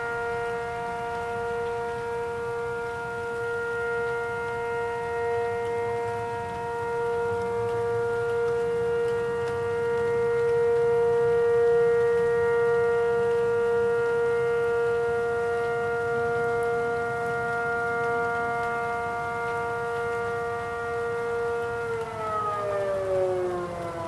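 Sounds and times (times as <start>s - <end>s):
tornado warning siren wailing: 0.0s - 24.0s.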